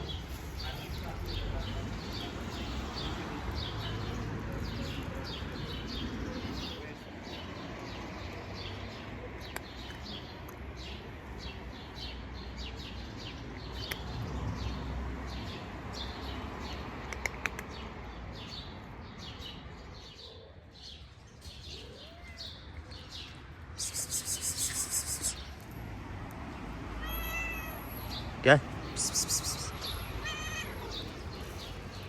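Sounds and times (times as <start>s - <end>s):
small birds chirping: 0.0s - 25.8s, 26.4s - 32.0s.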